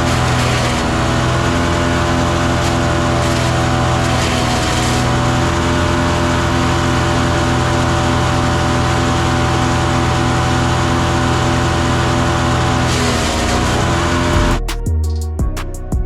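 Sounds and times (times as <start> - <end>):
wood chipper engine running: 0.0 - 14.6.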